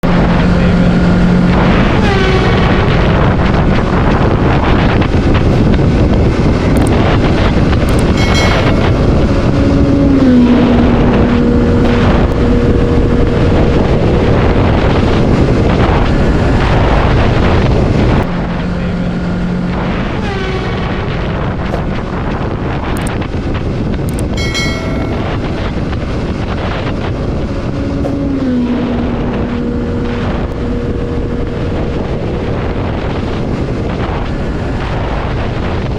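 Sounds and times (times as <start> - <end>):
wind on microphone: 0.0 - 35.9
motorcycle passing at speed: 0.1 - 22.9, 24.4 - 35.9.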